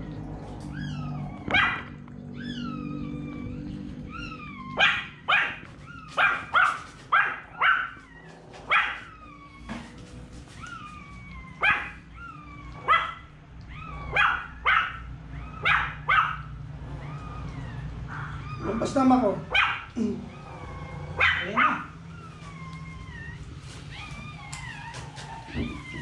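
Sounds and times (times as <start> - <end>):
small dog yapping: 0.7 - 26.0.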